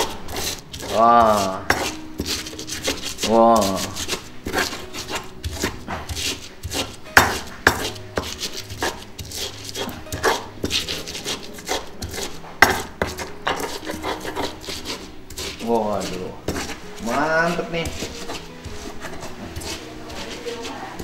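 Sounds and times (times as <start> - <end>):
stone pestle pounding in mortar: 0.0 - 21.0.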